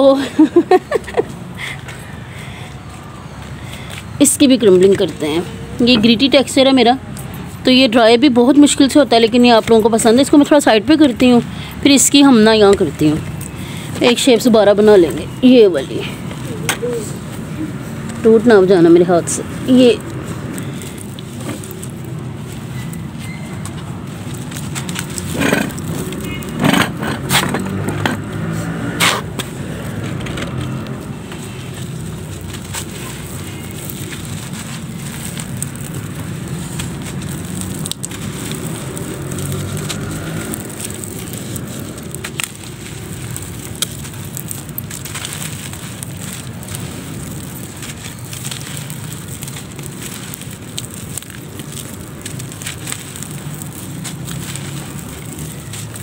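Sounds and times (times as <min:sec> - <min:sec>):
crumbs crackling and rustling: 0:00.0 - 0:56.0
dried mud cracking: 0:00.0 - 0:56.0.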